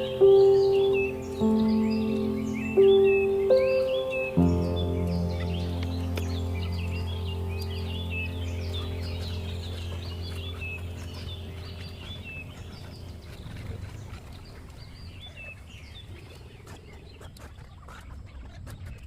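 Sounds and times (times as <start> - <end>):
steady low hum: 0.0 - 16.2
small birds chirping: 0.0 - 19.0.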